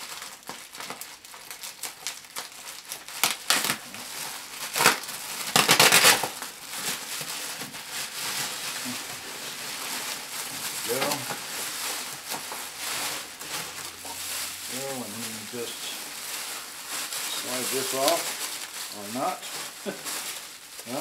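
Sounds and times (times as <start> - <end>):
bubble wrap crinkling: 0.0 - 21.0.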